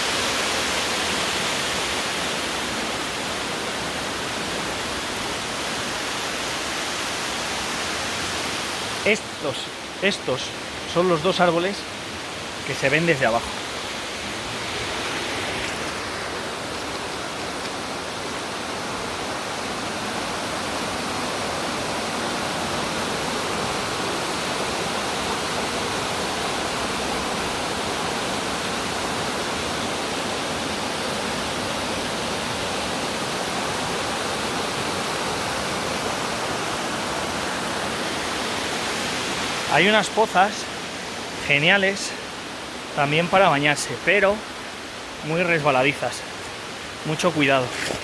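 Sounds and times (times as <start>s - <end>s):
waterfall roar: 0.0s - 48.0s.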